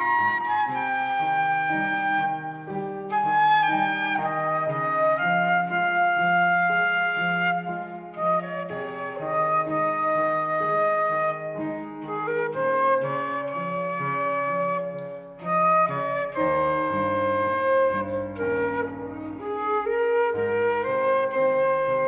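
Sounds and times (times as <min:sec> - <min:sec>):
instrumental accompaniment: 0:00.0 - 0:22.0
solo flute melody: 0:00.0 - 0:22.0.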